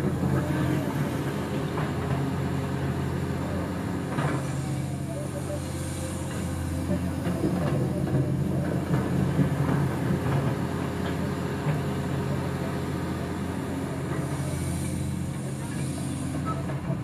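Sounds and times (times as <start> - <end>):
diesel engine hum: 0.0 - 17.0.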